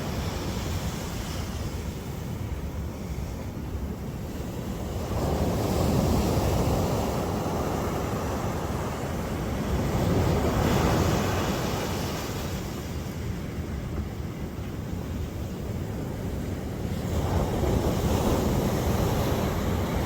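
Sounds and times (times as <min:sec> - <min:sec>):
sea waves breaking on shore: 0:00.0 - 0:20.0
wind buffeting microphone: 0:00.0 - 0:20.0.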